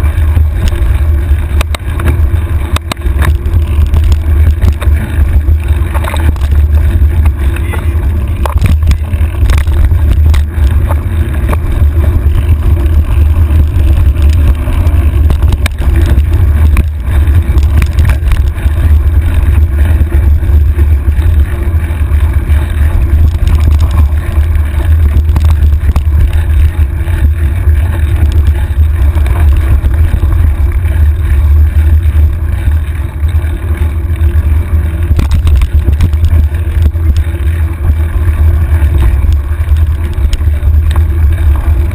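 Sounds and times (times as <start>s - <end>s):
bike rattling over rocks: 0.0s - 41.9s
wind buffeting microphone: 0.0s - 41.9s.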